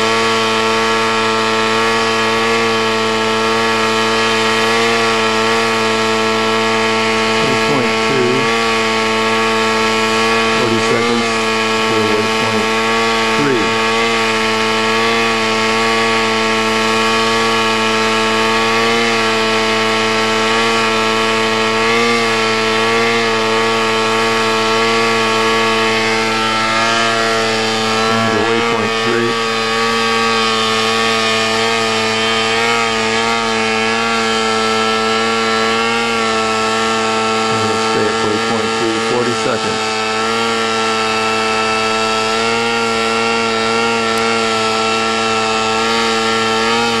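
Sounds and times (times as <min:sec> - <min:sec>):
model aircraft motor hovering: 0:00.0 - 0:47.0.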